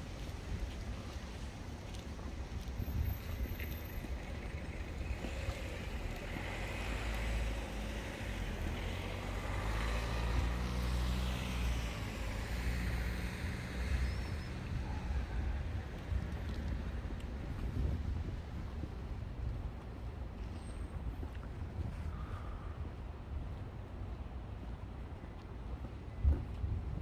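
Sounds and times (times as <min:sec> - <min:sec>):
road traffic: 0:00.0 - 0:27.0
wind rumbling on microphone: 0:00.0 - 0:27.0.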